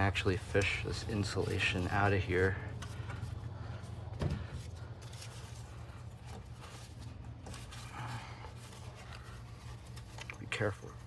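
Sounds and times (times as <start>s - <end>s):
hands rustling and scraping insulation: 0.0s - 11.0s
steady low hum: 0.0s - 11.0s.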